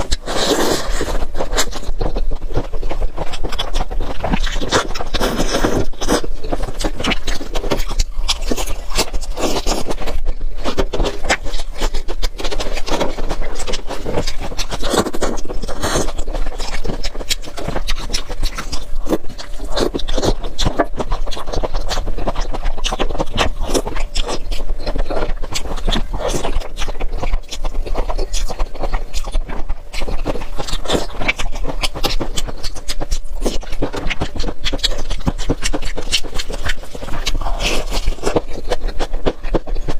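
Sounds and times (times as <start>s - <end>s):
chewing crisp lettuce: 0.0s - 39.9s.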